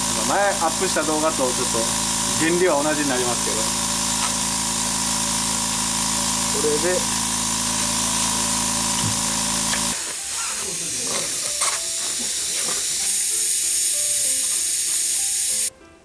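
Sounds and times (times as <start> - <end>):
compressed air hissing: 0.0 - 15.7
electric air compressor humming: 0.0 - 15.7.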